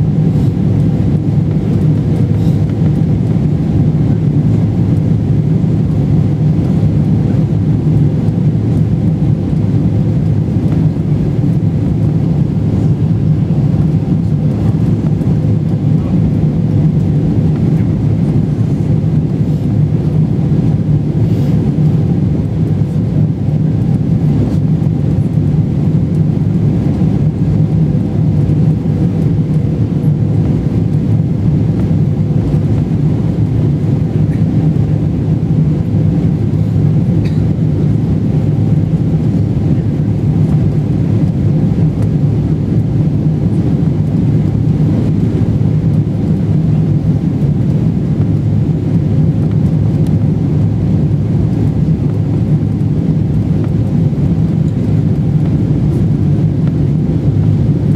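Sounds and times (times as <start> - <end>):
air rushing over fuselage: 0.0 - 57.9
faint steady hum: 0.0 - 57.9
jet engines rumbling: 0.0 - 57.9.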